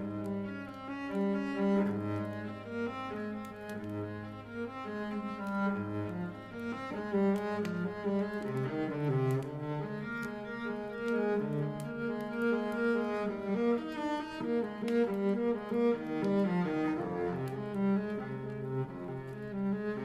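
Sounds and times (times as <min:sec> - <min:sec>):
faint crackling clicks: 0:00.0 - 0:20.0
slow cello music: 0:00.0 - 0:20.0.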